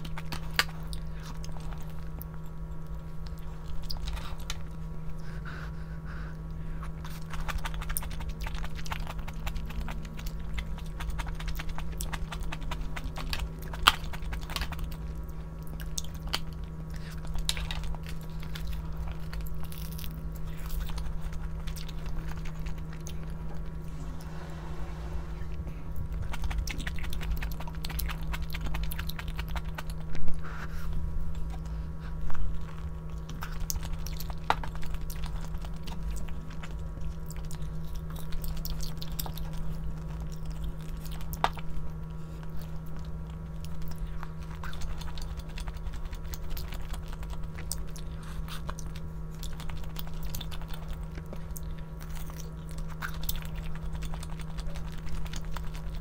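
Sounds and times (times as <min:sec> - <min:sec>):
person chewing food: 0:00.0 - 0:24.1, 0:26.0 - 0:56.0
steady low hum: 0:00.0 - 0:56.0.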